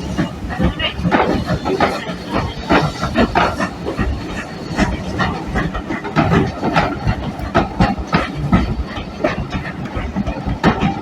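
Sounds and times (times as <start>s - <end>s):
steady steam hiss: 0.0s - 10.2s
steam locomotive chuffing: 0.0s - 11.0s.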